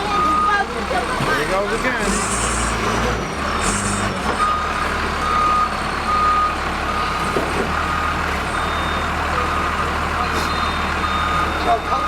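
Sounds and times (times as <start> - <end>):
truck backup alarm beeping: 0.0 - 1.2, 2.1 - 12.0
truck engine running: 0.0 - 12.0.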